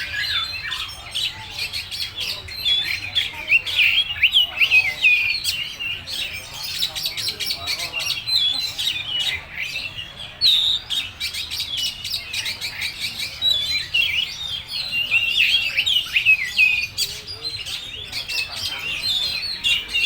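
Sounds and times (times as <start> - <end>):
bird singing varied song: 0.0 - 20.0.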